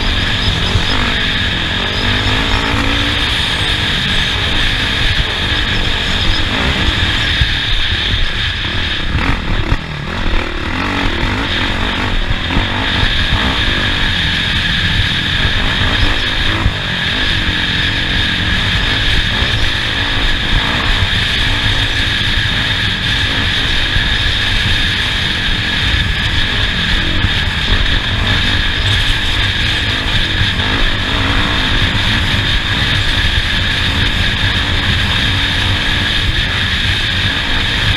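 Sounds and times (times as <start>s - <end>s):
low rumble and rattle: 0.0s - 37.9s
off-road vehicle engine running: 0.0s - 37.9s.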